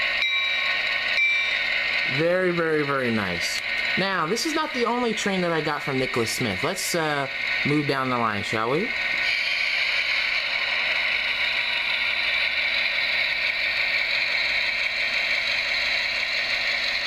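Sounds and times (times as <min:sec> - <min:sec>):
model train motor and wheels whirring: 0:00.0 - 0:17.0
diesel engine sound from small speaker: 0:01.8 - 0:17.0.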